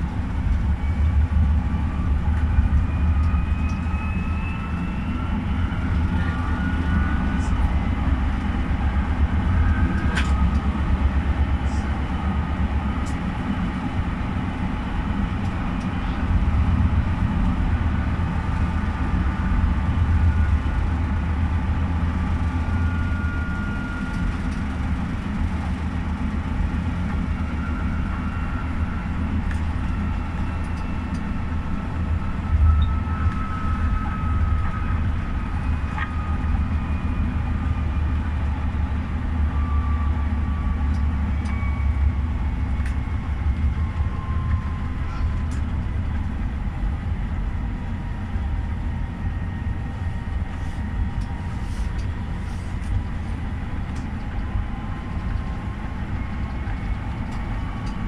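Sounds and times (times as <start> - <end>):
tram rumbling on track: 0.0 - 58.0.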